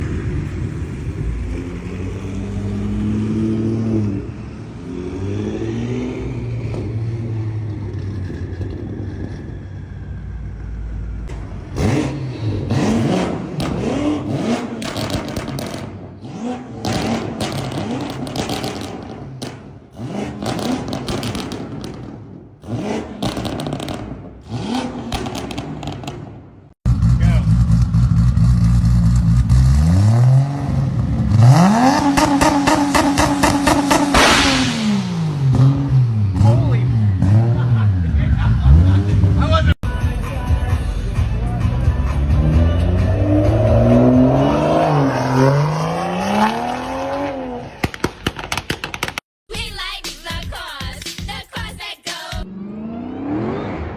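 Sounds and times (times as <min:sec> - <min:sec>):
car engine revving hard: 0:00.0 - 0:10.1, 0:11.3 - 0:39.8, 0:41.4 - 0:47.8, 0:52.5 - 0:53.9.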